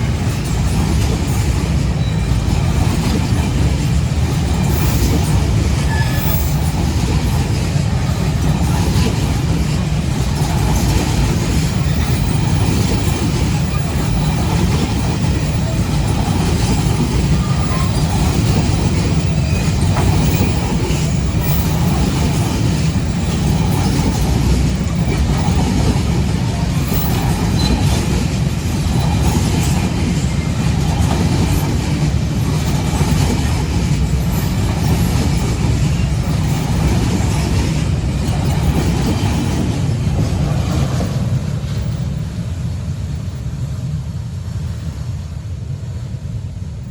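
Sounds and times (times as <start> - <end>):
clatter over rail joints: 0.0 - 43.5
train wheels rumbling on rails: 0.0 - 46.9.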